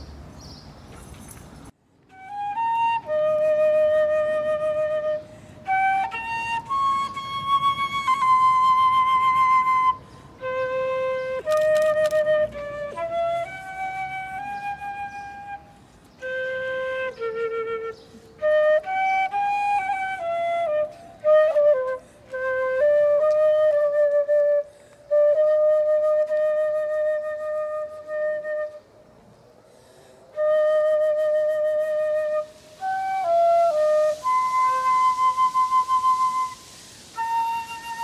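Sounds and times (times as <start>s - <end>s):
flute melody: 2.1s - 29.1s, 30.3s - 38.0s.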